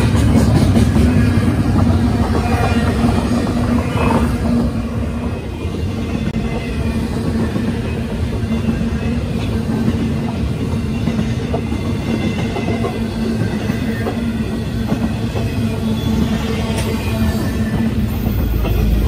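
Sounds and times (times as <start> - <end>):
rail joint clicks: 0.0 - 19.0
train wheels rumbling on rails: 0.0 - 19.0.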